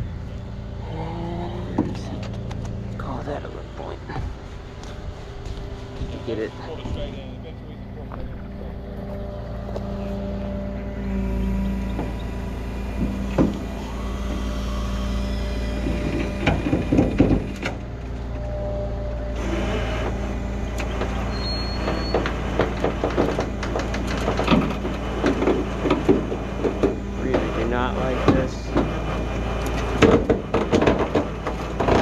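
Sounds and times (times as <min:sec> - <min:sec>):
truck engine humming: 0:00.0 - 0:32.0.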